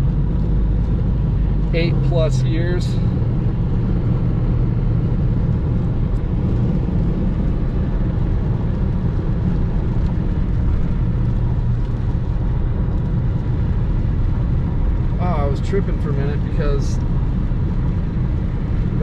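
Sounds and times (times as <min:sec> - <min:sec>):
car interior engine and tyre rumble: 0:00.0 - 0:19.0.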